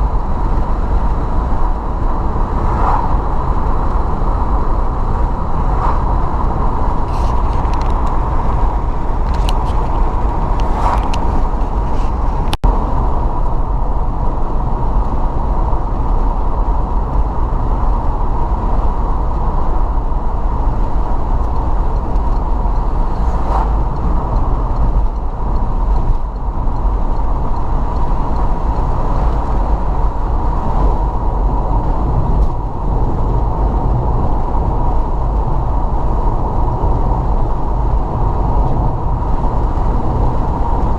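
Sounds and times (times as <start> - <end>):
road and engine rumble in car: 0.0 - 40.9.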